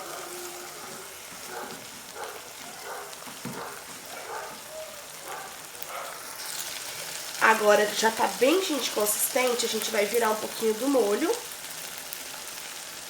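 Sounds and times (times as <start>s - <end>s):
sauce sizzling in frying pan: 0.0s - 13.0s.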